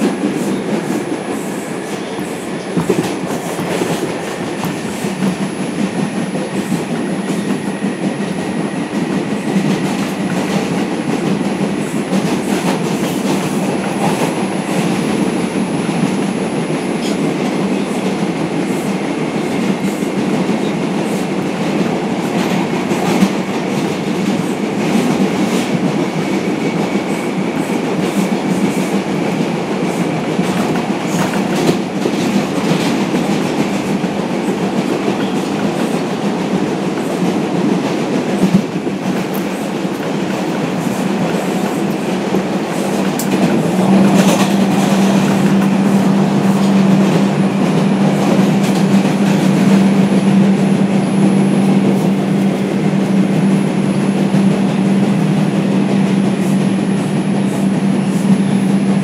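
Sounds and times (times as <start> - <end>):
rail clacks: 0.0 - 59.0
subway wheels rumbling on rail: 0.0 - 59.0.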